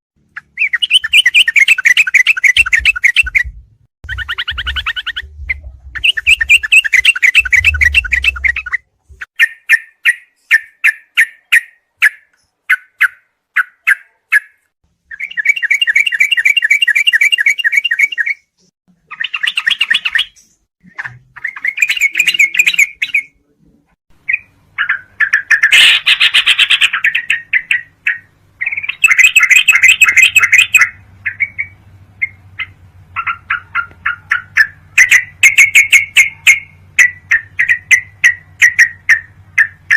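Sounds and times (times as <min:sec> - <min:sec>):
bird chattering trills: 0:00.3 - 0:14.5, 0:19.1 - 0:23.3, 0:24.2 - 0:39.9
sharp bird chirps: 0:00.3 - 0:23.4, 0:24.2 - 0:39.9.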